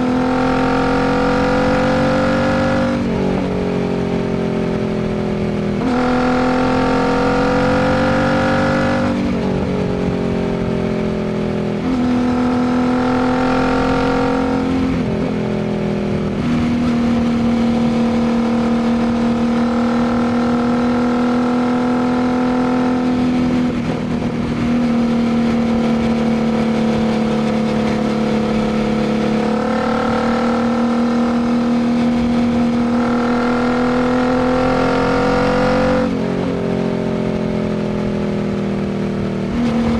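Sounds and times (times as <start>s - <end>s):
motorcycle engine under way: 0.0s - 39.9s.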